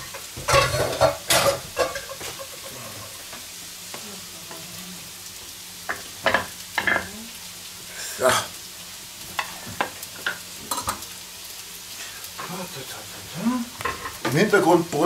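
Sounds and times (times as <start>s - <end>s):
potatoes sizzling in a pan: 0.0s - 15.0s.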